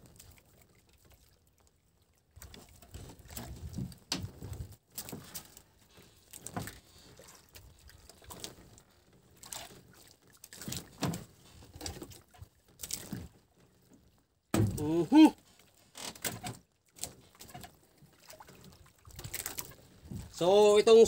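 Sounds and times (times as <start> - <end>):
faint water sounds: 0.0 - 21.0.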